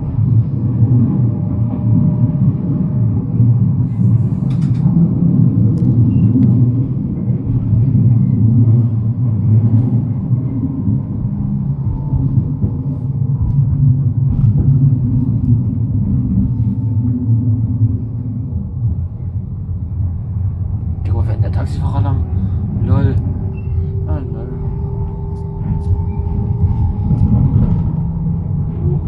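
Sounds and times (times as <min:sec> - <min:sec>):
tram rumbling along track: 0:00.0 - 0:29.0.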